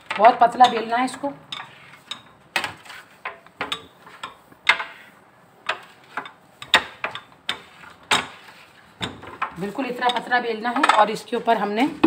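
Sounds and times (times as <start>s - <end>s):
rolling pin on dough: 0.0s - 12.0s.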